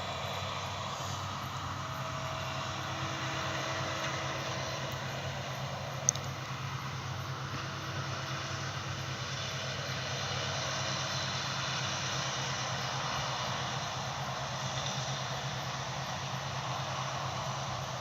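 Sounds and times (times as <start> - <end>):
farm machinery engines droning: 0.0 - 18.0.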